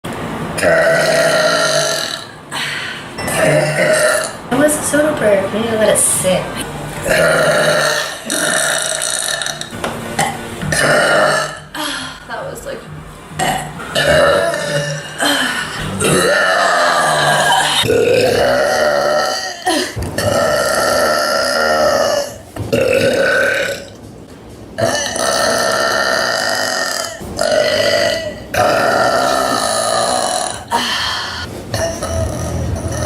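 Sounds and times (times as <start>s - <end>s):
woman belching loudly: 0.6s - 2.3s, 3.2s - 4.4s, 7.0s - 12.2s, 13.4s - 24.0s, 24.8s - 33.0s.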